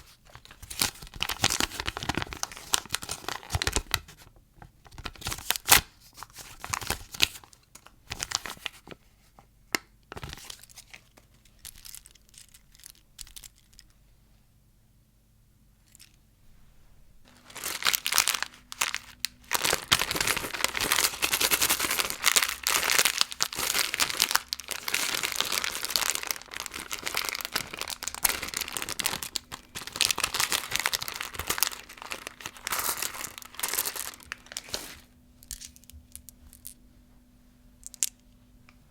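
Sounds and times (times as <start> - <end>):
plastic wrappers crinkling: 0.0 - 9.0, 10.1 - 13.8, 17.3 - 36.8.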